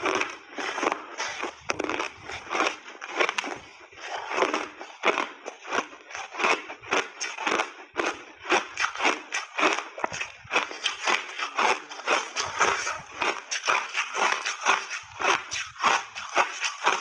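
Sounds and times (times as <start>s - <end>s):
crushed ice being chewed: 0.0s - 17.0s.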